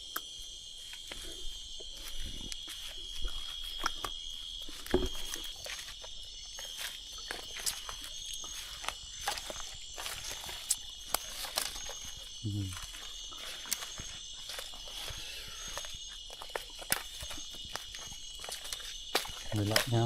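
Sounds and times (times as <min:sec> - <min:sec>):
crickets trilling: 0:00.0 - 0:20.0
footsteps on leaves and twigs: 0:00.0 - 0:20.0.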